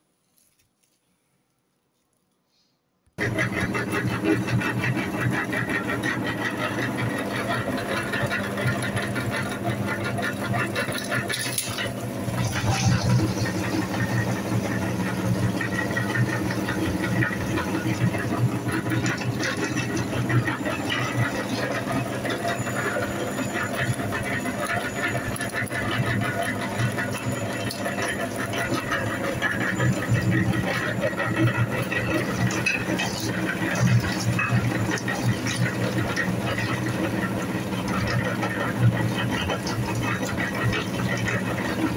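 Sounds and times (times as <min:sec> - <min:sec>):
grinder rattling: 0:03.2 - 0:41.9
meat grinder motor hum: 0:03.2 - 0:41.9.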